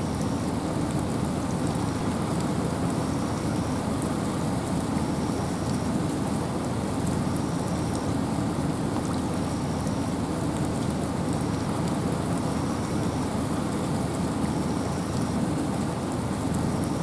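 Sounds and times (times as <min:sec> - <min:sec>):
rain and wind rushing: 0:00.0 - 0:17.0.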